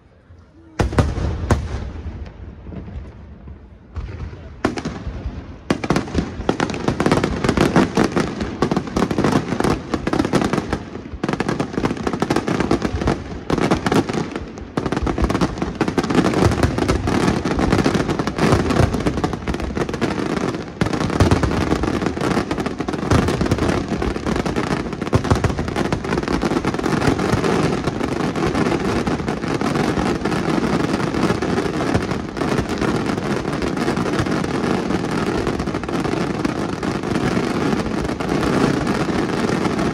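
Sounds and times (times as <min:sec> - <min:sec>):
fireworks rumble: 0:00.0 - 0:39.9
fireworks cracks: 0:00.7 - 0:39.9.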